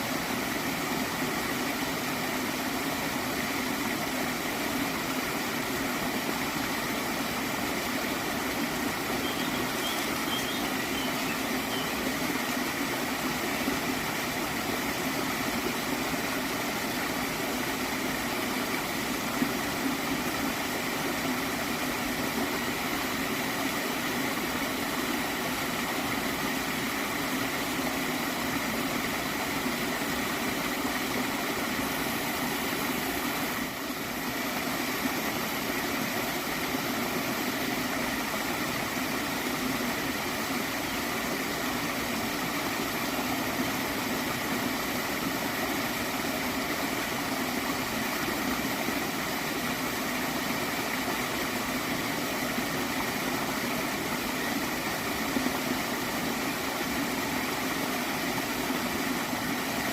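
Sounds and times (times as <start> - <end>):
stream water gurgling: 0.0 - 59.9.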